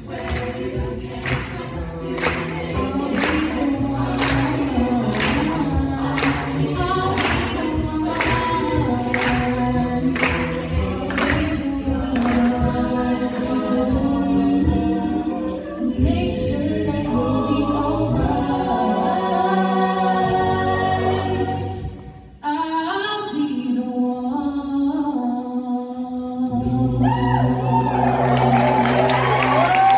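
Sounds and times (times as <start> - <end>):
a cappella group singing: 0.0 - 29.9.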